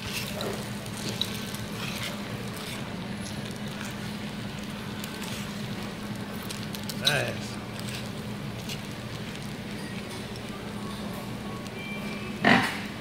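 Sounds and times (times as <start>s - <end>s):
restaurant background noise: 0.0s - 13.0s.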